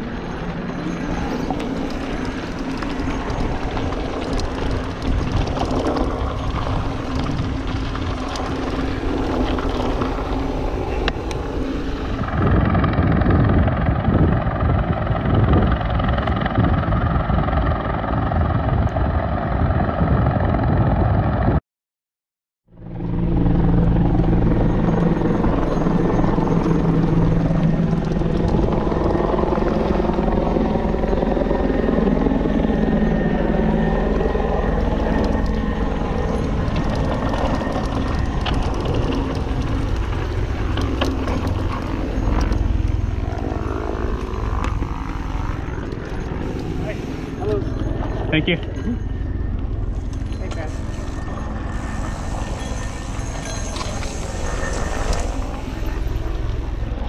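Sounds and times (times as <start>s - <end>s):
mountain bike rattling over dirt: 0.0s - 21.1s, 24.6s - 30.9s, 34.1s - 49.0s, 49.7s - 57.0s
helicopter rotor thump and drone: 0.0s - 21.6s, 22.7s - 57.0s.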